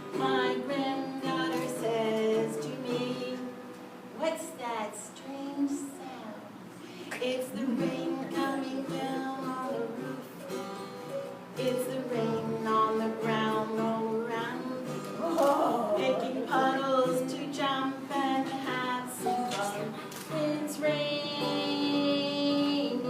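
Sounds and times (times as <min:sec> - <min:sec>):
person singing: 0:00.0 - 0:03.6, 0:05.2 - 0:10.6, 0:11.6 - 0:23.0
plucked guitar: 0:00.0 - 0:04.2, 0:05.6 - 0:23.0.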